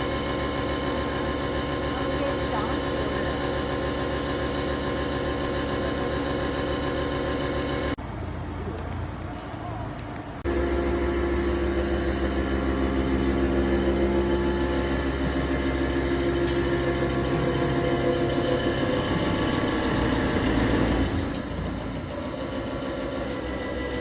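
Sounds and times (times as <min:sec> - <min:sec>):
milling machine hum: 0:00.0 - 0:08.0, 0:10.4 - 0:24.0.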